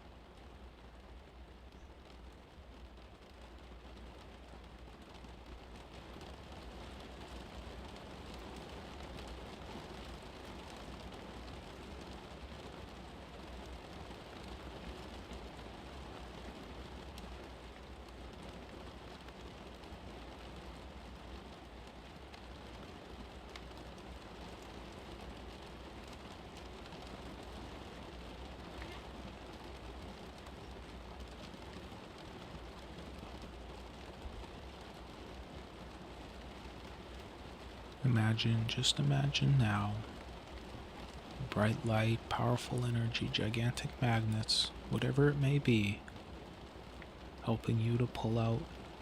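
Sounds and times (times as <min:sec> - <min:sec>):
soft hiss with crackle: 0:00.0 - 0:49.0.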